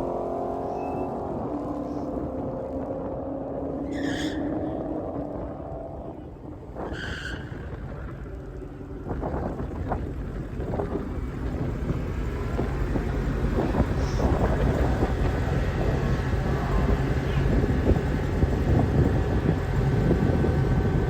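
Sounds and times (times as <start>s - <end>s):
car engine rumbling: 0.0s - 21.0s
wind buffeting microphone: 0.0s - 21.0s.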